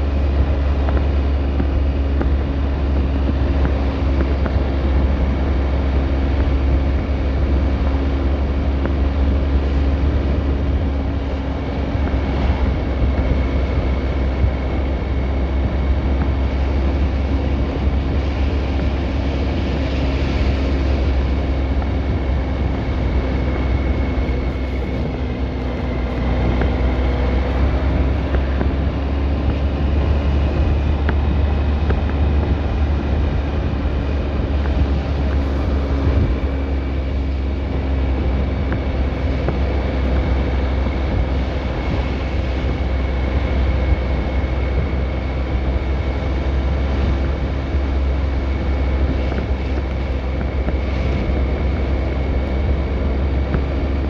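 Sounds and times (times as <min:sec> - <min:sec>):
low mechanical rumble: 0:00.0 - 0:54.0
steady hum: 0:00.0 - 0:54.0.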